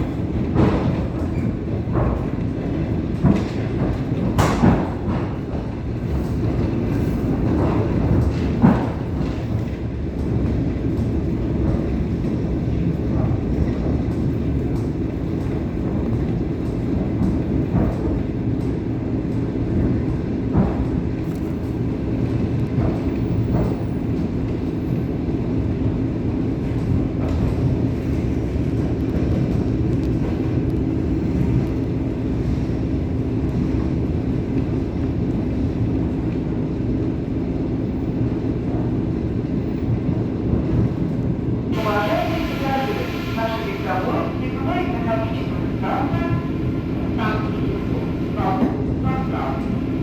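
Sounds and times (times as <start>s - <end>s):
train wheels rumbling: 0.0s - 50.0s.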